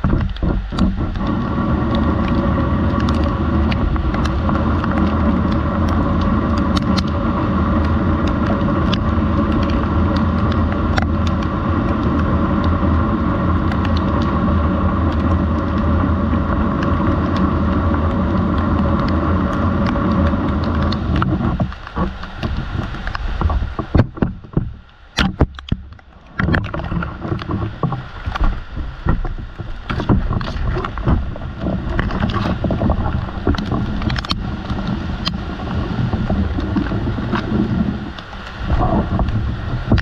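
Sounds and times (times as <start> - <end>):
heavy rain on corrugated roof: 0.0 - 25.2, 26.1 - 40.0
sharp clicks of raindrops: 0.0 - 40.0.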